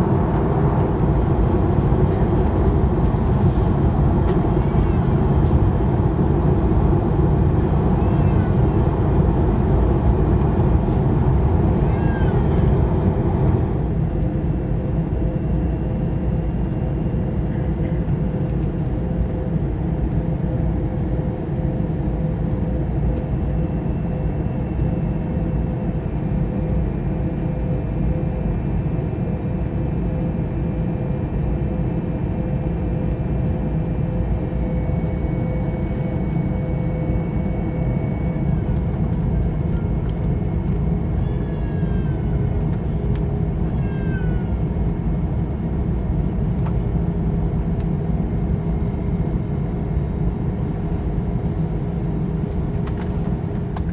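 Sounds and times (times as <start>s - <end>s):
airplane cabin drone: 0.0s - 53.9s.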